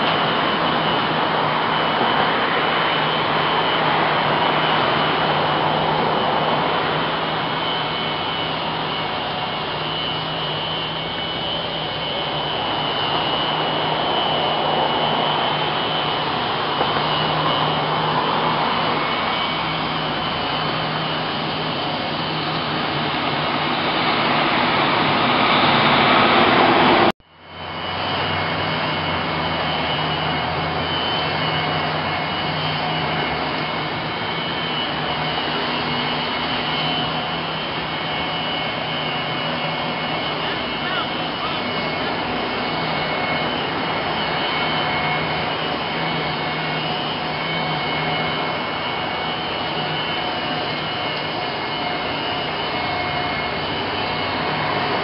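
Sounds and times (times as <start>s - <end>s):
leaf blower vacuum whining: 0.0s - 55.0s.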